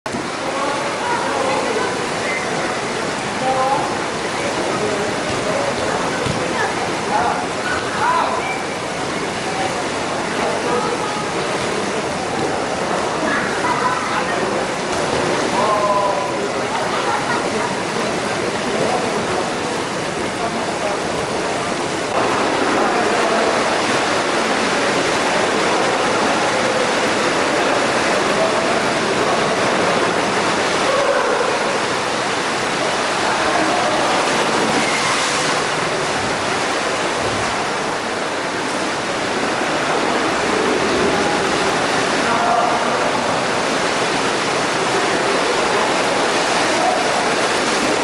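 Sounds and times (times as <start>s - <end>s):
faint voices: 0.1s - 48.0s
running water echoing indoors: 0.1s - 48.0s
water gushing into pool: 0.1s - 48.0s.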